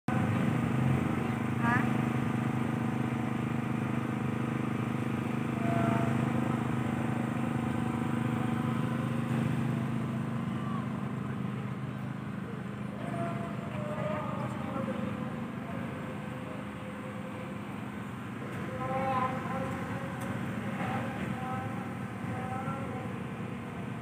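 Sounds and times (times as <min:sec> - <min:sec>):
low engine hum: 0:00.0 - 0:24.0
faint distant voices: 0:00.1 - 0:24.0
street bustle: 0:00.1 - 0:24.0.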